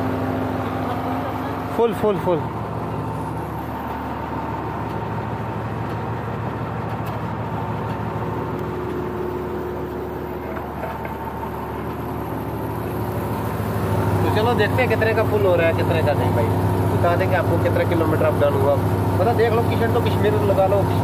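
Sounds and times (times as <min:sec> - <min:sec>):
diesel engine idling: 0:00.0 - 0:21.0
pump mechanical hum: 0:00.0 - 0:21.0.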